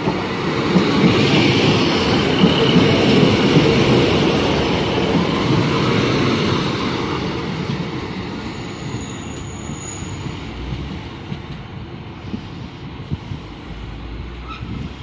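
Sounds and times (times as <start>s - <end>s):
train engine and wheel rumble: 0.0s - 15.0s.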